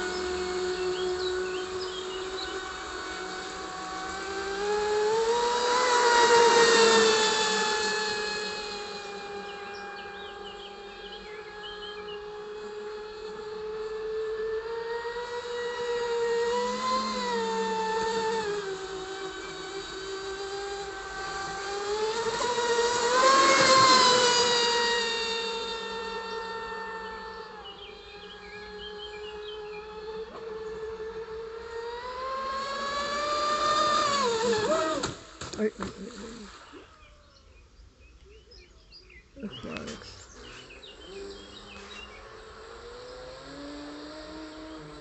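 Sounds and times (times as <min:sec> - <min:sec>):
rc boat motor whine: 0:00.0 - 0:45.0.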